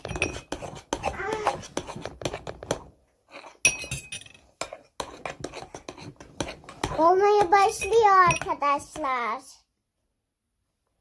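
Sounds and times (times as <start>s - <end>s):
utensil scraping a bowl: 0.0s - 9.0s.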